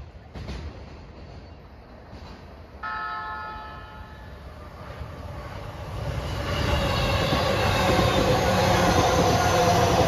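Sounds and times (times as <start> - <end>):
electric train passing: 0.0 - 10.0
train whine: 0.0 - 10.0.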